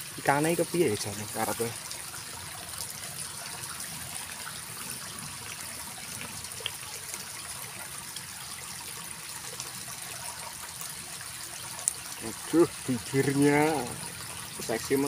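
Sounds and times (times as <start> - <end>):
water trickling in a ditch: 0.0 - 15.0.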